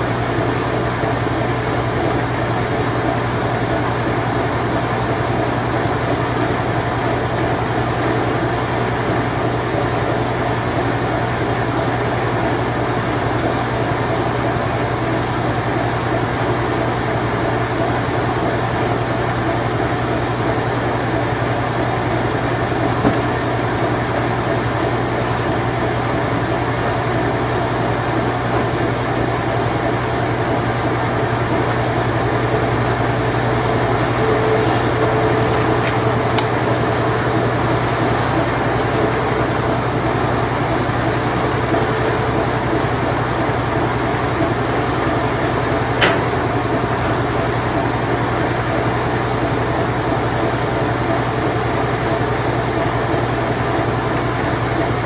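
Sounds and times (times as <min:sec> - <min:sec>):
washing machine spin cycle: 0:00.0 - 0:55.0.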